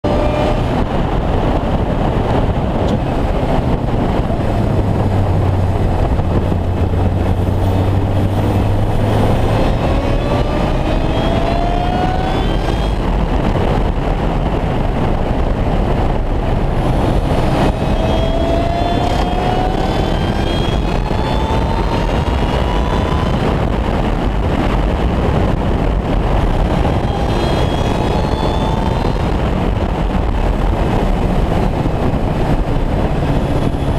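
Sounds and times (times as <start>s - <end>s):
car engine accelerating: 0.0s - 33.9s
wind and road noise: 0.0s - 33.9s.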